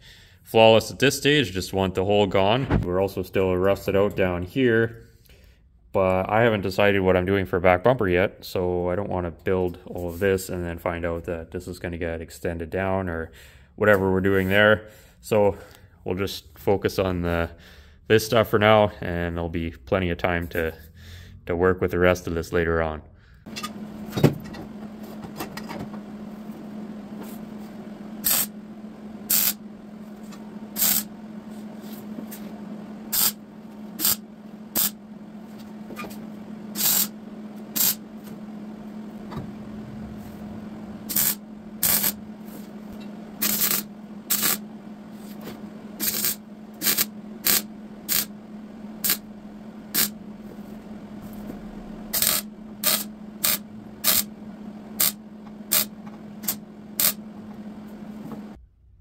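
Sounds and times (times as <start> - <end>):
shop equipment hum: 0.0 - 59.0.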